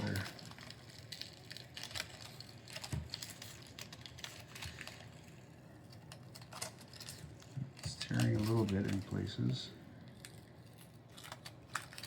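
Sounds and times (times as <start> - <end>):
paper peeling off plastic: 0.0 - 12.0.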